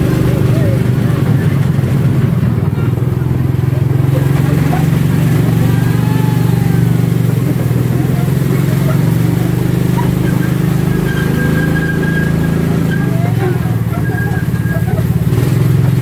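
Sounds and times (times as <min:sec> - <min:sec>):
cart rumbling on track: 0:00.0 - 0:16.0.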